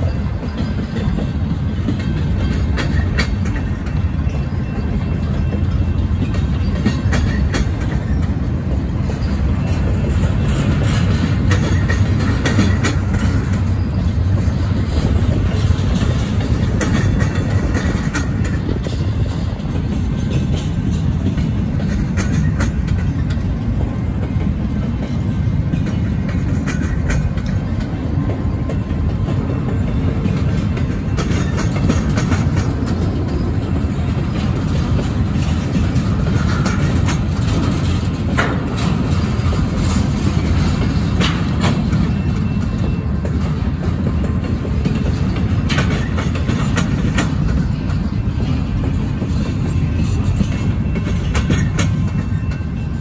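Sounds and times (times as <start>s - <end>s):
freight train wheels rumbling: 0.0s - 53.0s
train clicks and clanks: 0.0s - 53.0s.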